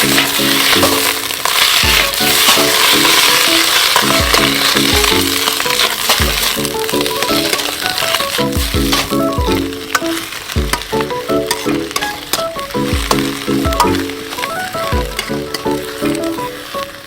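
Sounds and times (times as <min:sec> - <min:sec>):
food sizzling in a wok: 0:00.0 - 0:17.0
music with steady beat: 0:01.8 - 0:17.0.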